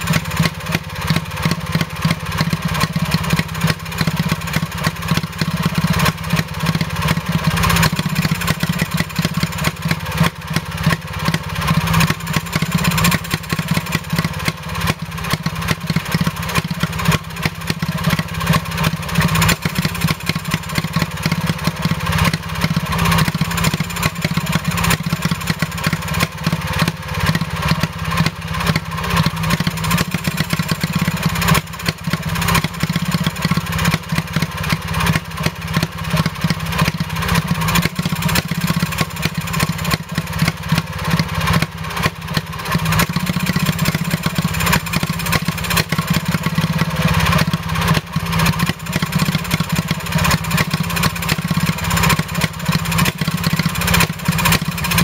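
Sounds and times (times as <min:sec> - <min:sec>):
stationary engine running: 0:00.0 - 0:55.0.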